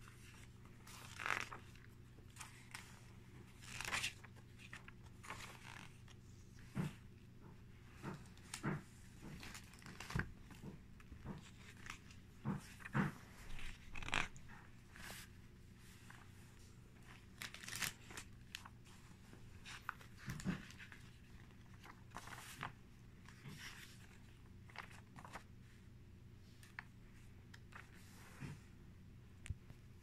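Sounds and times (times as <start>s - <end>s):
paper pages rustling: 0.0s - 25.8s, 26.4s - 28.7s.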